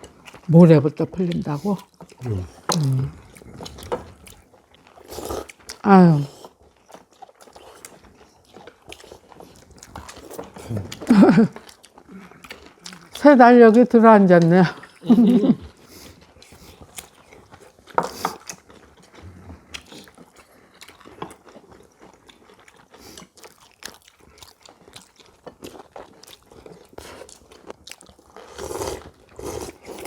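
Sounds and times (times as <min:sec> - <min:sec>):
people chewing and crunching food: 0:00.0 - 0:30.0.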